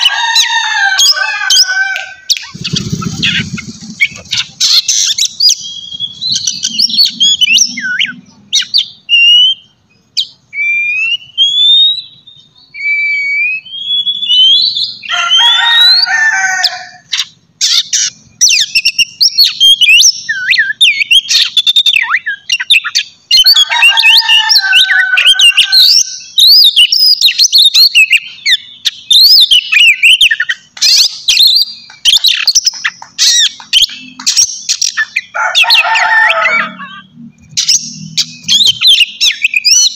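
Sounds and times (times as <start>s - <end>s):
songbird singing whistles: 1.0s - 16.1s, 17.1s - 35.4s, 36.0s - 39.9s.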